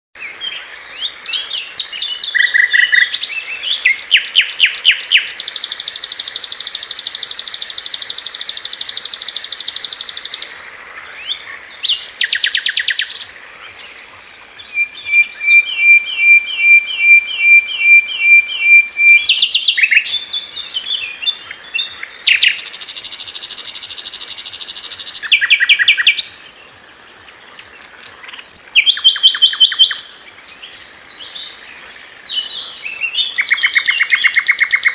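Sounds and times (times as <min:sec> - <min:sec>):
bird singing buzzy trills: 0:00.2 - 0:34.9.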